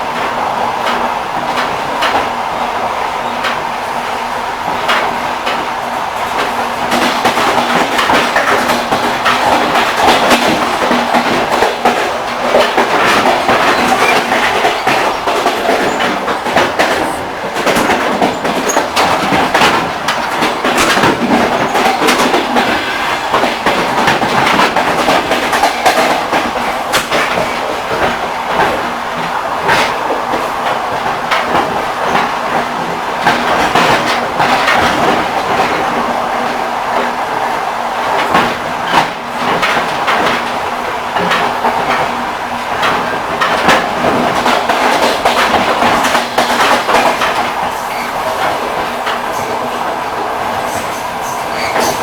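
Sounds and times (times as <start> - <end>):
rumbling of moving train: 0.0 - 52.0
train wheels clacking on rail joints: 0.0 - 52.0.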